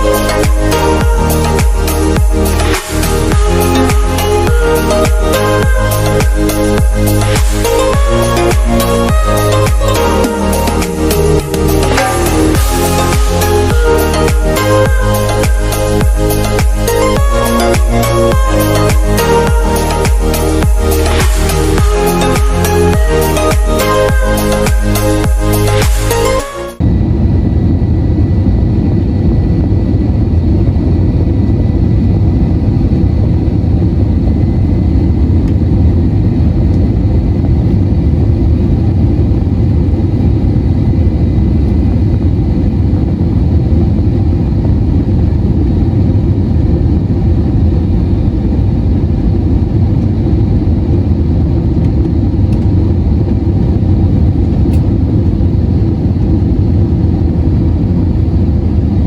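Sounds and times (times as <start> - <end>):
airliner cabin airflow and engines: 0.0 - 59.0
faint high whine: 0.0 - 59.0.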